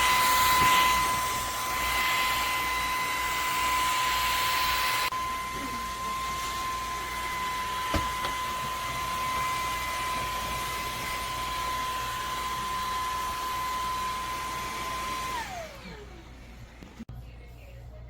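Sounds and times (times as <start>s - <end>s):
vacuum motor spinning down: 0.0s - 17.0s
vacuum motor whining: 0.0s - 17.1s.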